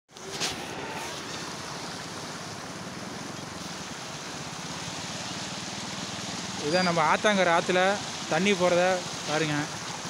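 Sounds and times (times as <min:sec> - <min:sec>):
floodwater rushing: 0:00.1 - 0:10.0.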